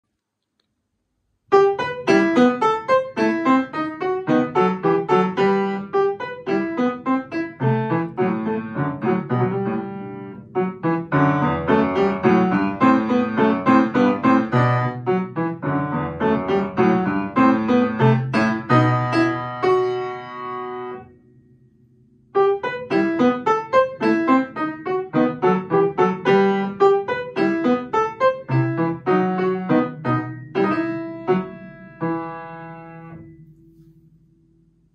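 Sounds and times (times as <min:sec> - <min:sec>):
upright piano playing: 0:01.5 - 0:33.8.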